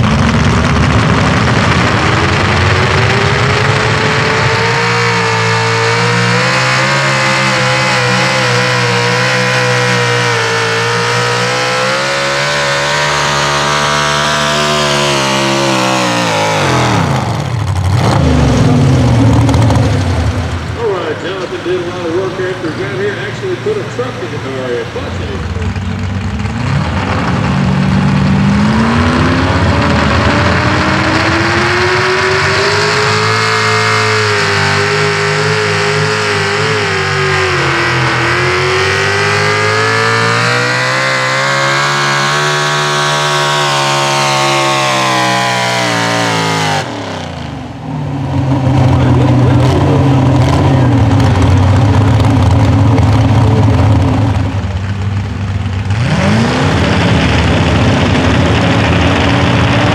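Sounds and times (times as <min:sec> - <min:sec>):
engine revving: 0:00.0 - 0:59.9
truck engine at high revs: 0:00.0 - 0:59.9.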